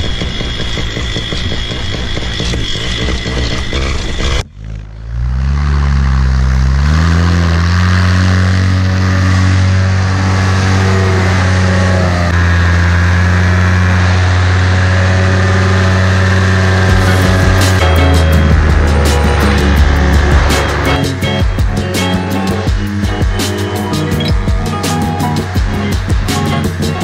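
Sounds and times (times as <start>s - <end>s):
paramotor engine and propeller: 0.0s - 27.0s.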